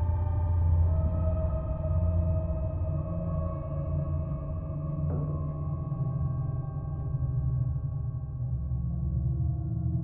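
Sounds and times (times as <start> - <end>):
slow ambient music: 0.0 - 10.0.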